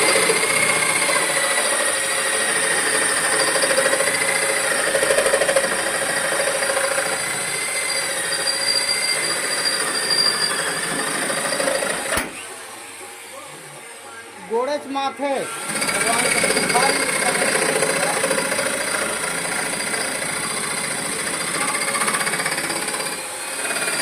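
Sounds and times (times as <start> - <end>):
power tool whining: 0.0 - 24.0.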